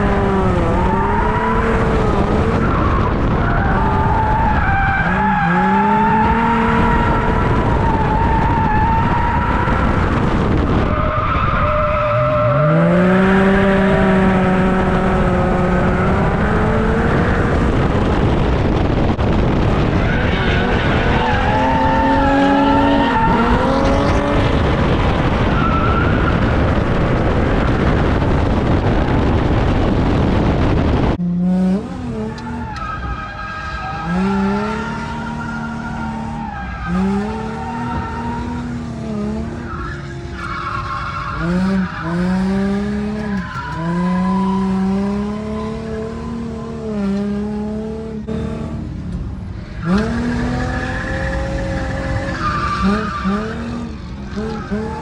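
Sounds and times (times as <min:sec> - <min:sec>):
car engine revving: 0:00.0 - 0:55.0
tyre and road noise: 0:00.0 - 0:55.0.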